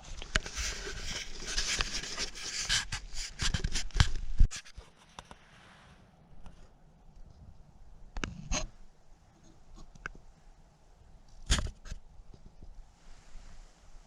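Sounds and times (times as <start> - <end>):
rustling and scraping: 0.0 - 10.3, 11.3 - 14.0.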